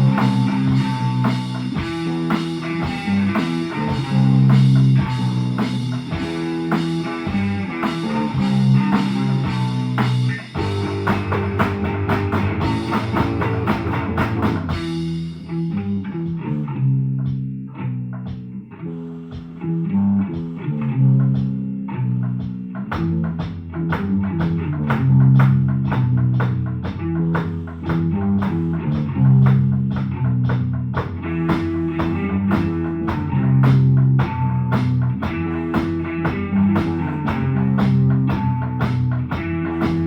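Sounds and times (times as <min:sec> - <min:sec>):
electric guitar riff: 0:00.0 - 0:17.9, 0:22.9 - 0:40.0
drums: 0:00.0 - 0:40.0.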